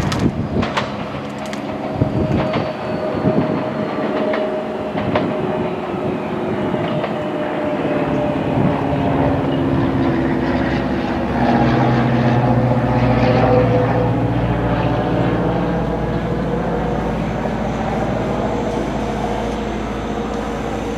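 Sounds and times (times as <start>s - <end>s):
train motor hum: 0.0s - 20.9s
train wheels rumbling on rail: 0.0s - 20.9s.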